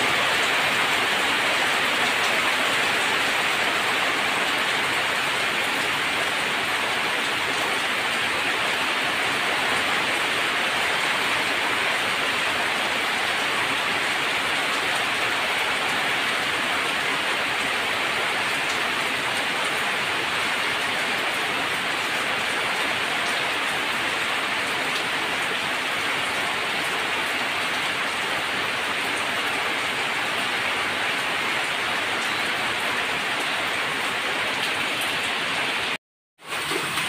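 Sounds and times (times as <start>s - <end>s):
heavy rain on metal roofs: 0.0s - 37.0s
water streaming off eaves: 0.0s - 37.0s.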